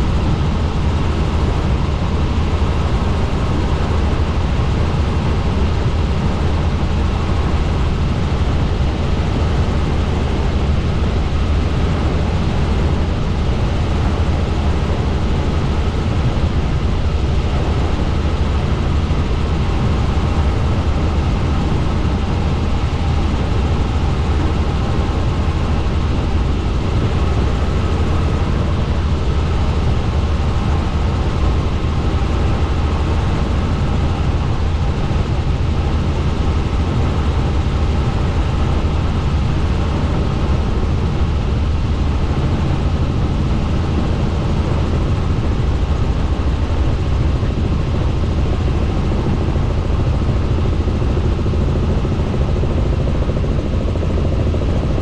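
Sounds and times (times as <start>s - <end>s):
helicopter flying: 0.0s - 55.0s.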